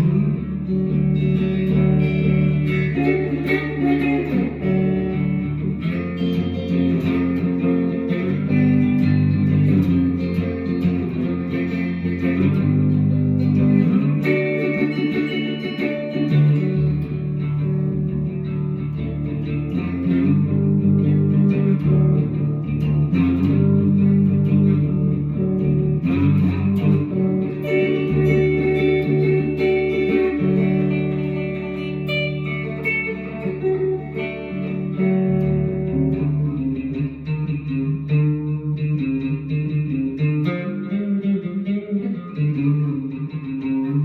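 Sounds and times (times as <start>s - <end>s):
electric guitar playing: 0.0s - 44.0s.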